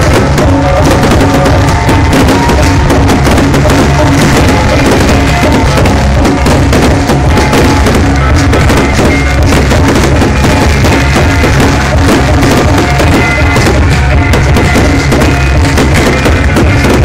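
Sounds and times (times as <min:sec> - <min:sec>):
deep drum-like booming: 0:00.0 - 0:17.0
fireworks bursting and crackling: 0:00.0 - 0:17.0.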